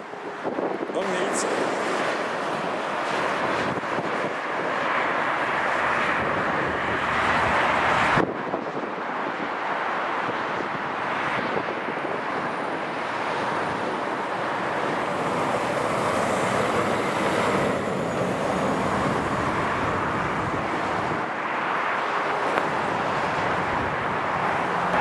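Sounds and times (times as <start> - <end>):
motorway traffic rushing: 0.0 - 25.0.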